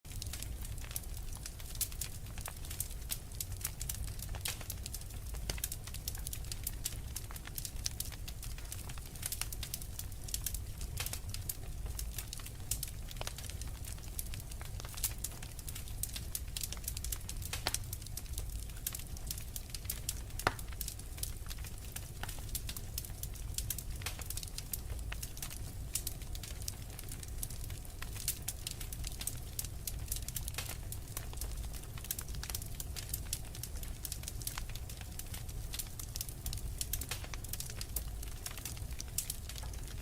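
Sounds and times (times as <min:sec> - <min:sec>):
wood fire crackling: 0:00.1 - 0:40.0.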